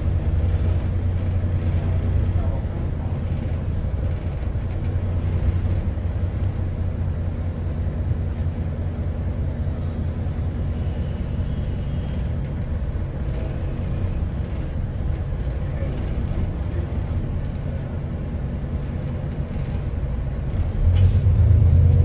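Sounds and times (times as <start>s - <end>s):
bus engine rumbling: 0.0s - 22.0s
road noise: 0.0s - 22.0s.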